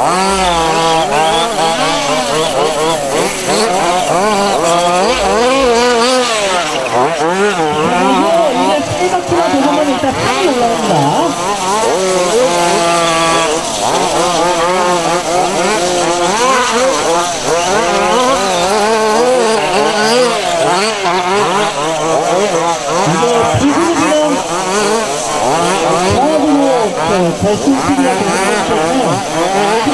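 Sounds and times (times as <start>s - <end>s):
small two-stroke engines racing: 0.0s - 29.9s.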